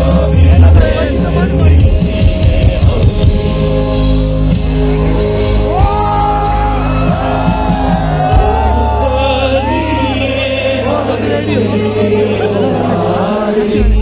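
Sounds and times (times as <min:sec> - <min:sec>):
voices singing and shouting: 0:00.0 - 0:03.6, 0:06.0 - 0:14.0
live rock band playing: 0:00.0 - 0:14.0
sustained bass notes: 0:00.0 - 0:14.0.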